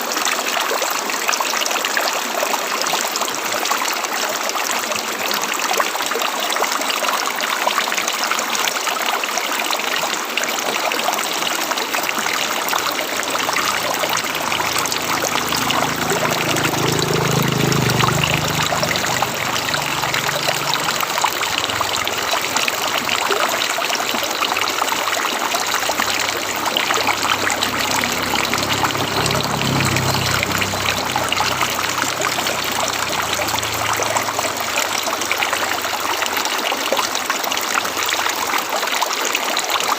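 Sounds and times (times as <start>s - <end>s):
river water rushing: 7.9s - 39.9s.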